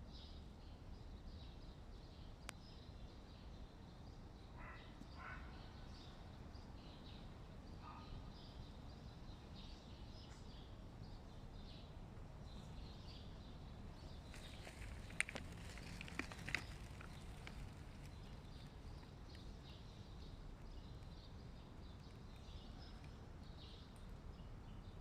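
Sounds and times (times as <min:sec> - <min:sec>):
small birds chirping: 0:00.2 - 0:25.0.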